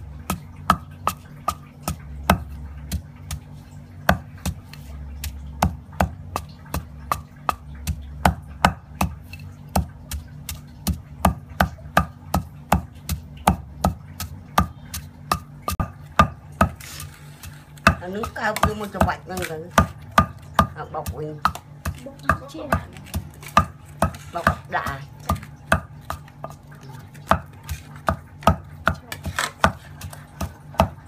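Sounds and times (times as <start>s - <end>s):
pestle pounding in stone mortar: 0.0s - 31.0s.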